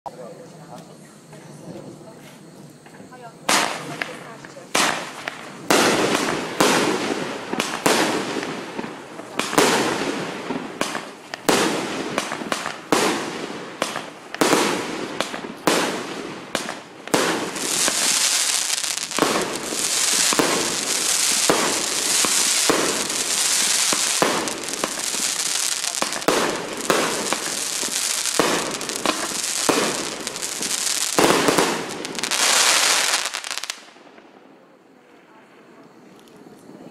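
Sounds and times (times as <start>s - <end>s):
fireworks crackling: 1.9s - 36.9s
fireworks bangs: 2.8s - 36.9s.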